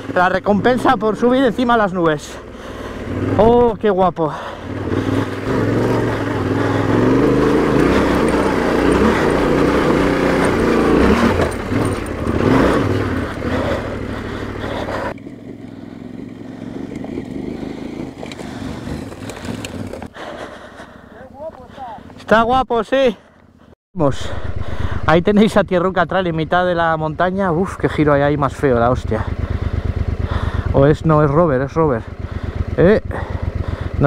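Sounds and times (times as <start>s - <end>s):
motorcycle engine running: 0.0s - 22.4s, 23.1s - 34.0s.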